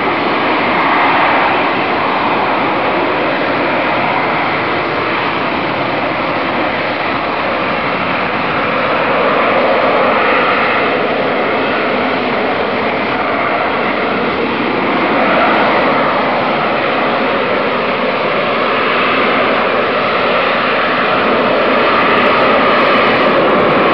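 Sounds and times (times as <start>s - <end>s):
jet engine roar with hiss: 0.0s - 23.9s.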